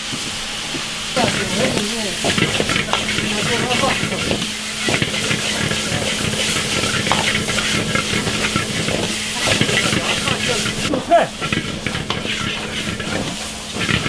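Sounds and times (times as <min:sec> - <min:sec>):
food sizzling in a wok: 0:00.0 - 0:14.0
metal ladle scraping wok: 0:01.1 - 0:14.0.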